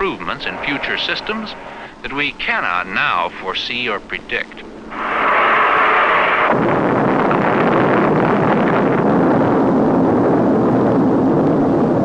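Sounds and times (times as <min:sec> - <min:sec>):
rocket engine roar: 0:00.0 - 0:02.8, 0:04.7 - 0:12.0.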